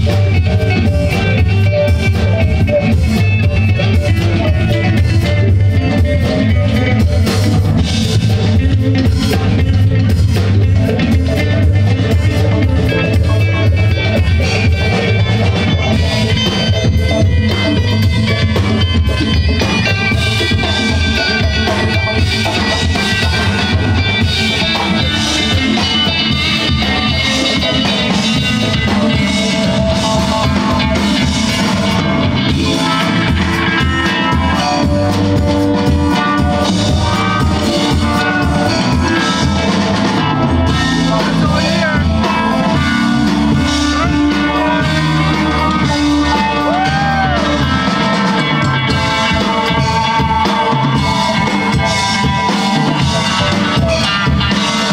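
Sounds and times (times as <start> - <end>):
bass guitar: 0.0 - 54.9
drum kit: 0.0 - 54.9
electric guitar: 0.0 - 54.9
keyboards: 0.0 - 54.9.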